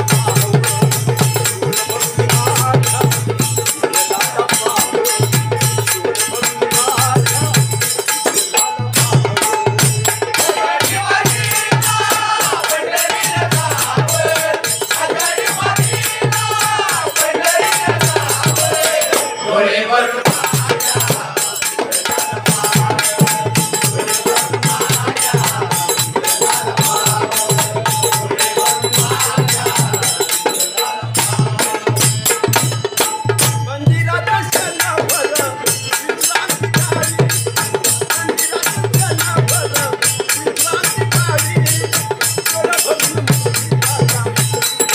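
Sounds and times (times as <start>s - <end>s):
drum beat: 0.0s - 19.4s, 20.2s - 44.9s
hand cymbals jingling: 0.0s - 44.9s
voices singing: 0.0s - 44.9s.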